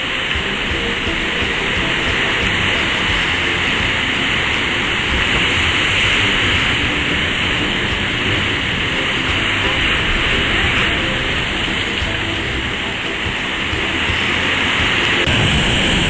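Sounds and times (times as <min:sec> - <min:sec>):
surf breaking on rocks: 0:00.0 - 0:16.0.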